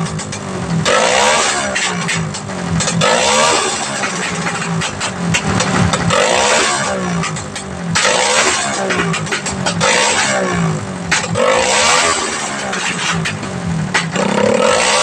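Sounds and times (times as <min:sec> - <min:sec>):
exhaust popping and crackling: 0:00.0 - 0:15.0
mini bike engine revving: 0:00.0 - 0:15.0.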